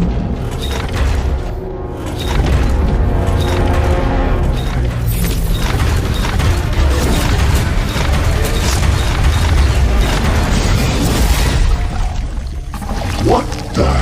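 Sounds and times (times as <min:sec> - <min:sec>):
orchestral action music: 0:00.0 - 0:14.0.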